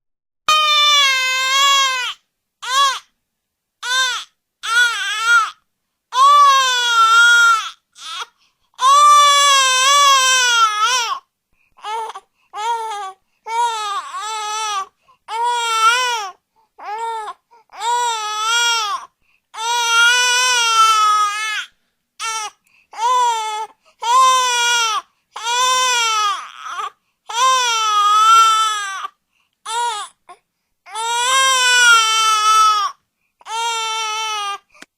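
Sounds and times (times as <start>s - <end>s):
baby crying: 0.5s - 3.1s, 3.8s - 11.2s, 11.8s - 34.7s.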